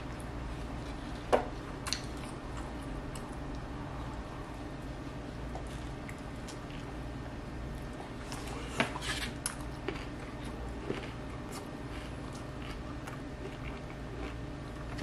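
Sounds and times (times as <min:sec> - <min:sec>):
man chewing with wet smacks: 0:00.0 - 0:04.6, 0:05.4 - 0:15.0
low steady hum: 0:00.0 - 0:15.0.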